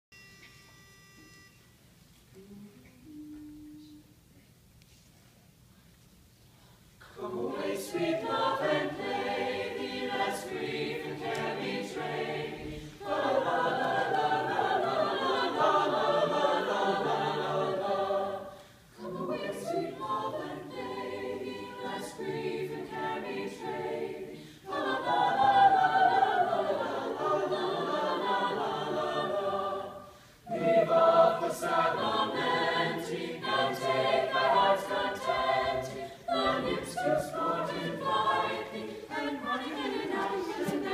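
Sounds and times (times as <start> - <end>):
choir singing: 7.0 - 40.9.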